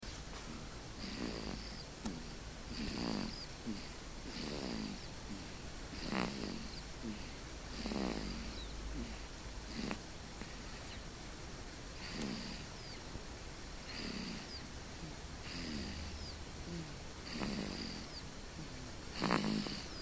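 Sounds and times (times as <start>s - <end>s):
baby snoring: 1.0s - 11.0s, 12.0s - 13.1s, 13.8s - 20.0s.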